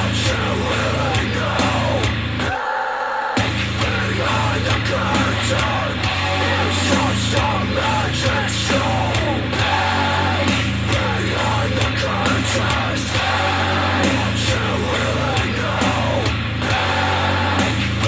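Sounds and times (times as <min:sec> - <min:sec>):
rock music with vocals: 0:00.0 - 0:18.0.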